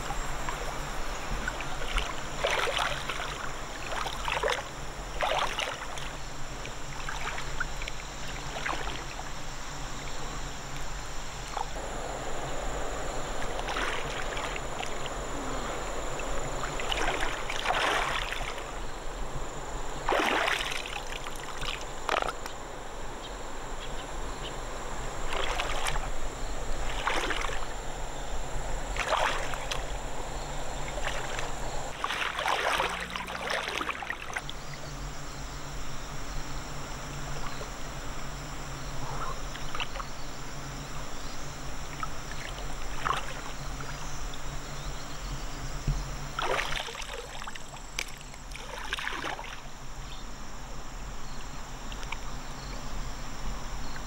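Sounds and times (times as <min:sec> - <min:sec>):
river water splashing: 0:00.0 - 0:35.0, 0:35.6 - 0:50.0.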